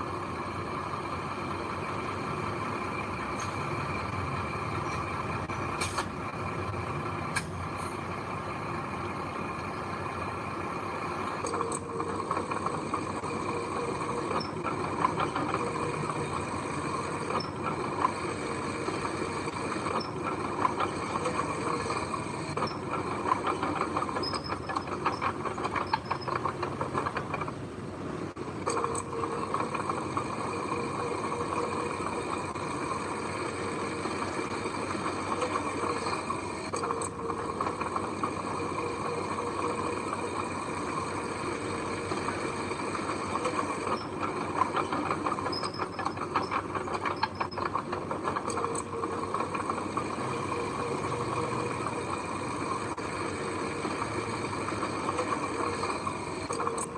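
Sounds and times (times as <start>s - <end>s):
diesel engine under load: 0.0s - 56.9s.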